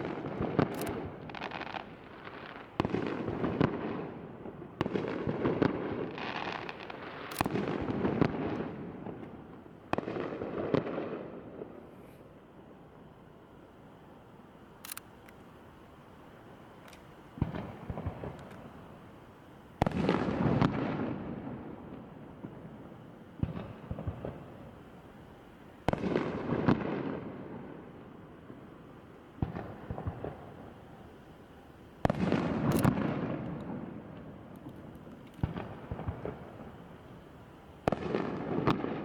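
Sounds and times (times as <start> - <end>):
fireworks booming with crackle: 0.0 - 11.9, 17.3 - 39.0
sharp fireworks pops: 0.0 - 12.3, 16.8 - 19.0, 19.8 - 31.0, 32.0 - 39.0.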